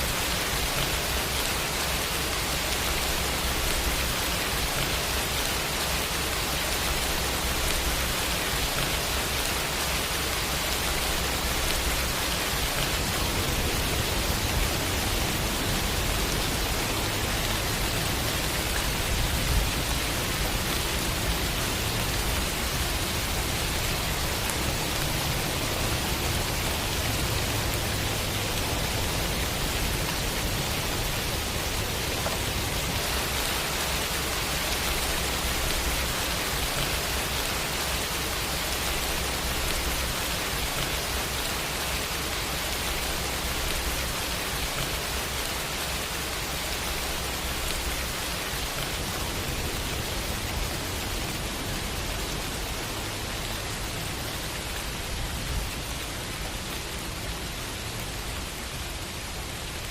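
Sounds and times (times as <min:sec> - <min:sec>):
rain hissing: 0:00.0 - 0:59.9.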